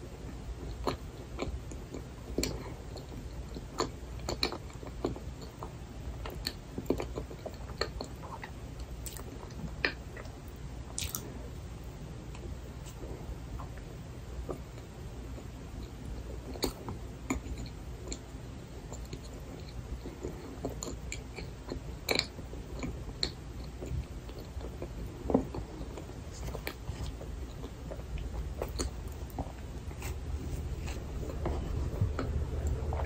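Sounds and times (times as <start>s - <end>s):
close chewing sounds: 0.0s - 33.0s
steady low hum: 0.0s - 33.0s.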